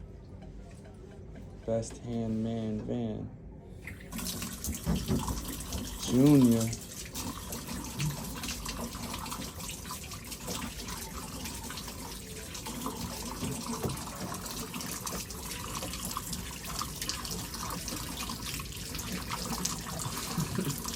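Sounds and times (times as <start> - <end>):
shower water running: 3.9 - 20.9.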